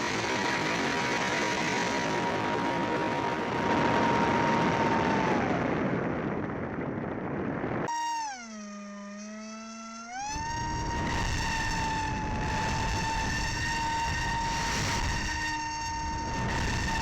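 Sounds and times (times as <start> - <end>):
model plane motor whining: 0.0 - 6.0, 7.9 - 17.0
wind rush: 0.0 - 7.9, 10.3 - 17.0.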